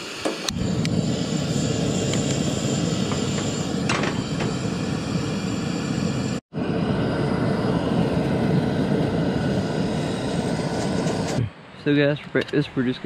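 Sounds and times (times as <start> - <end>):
gas burner flame rushing: 0.0 - 11.6.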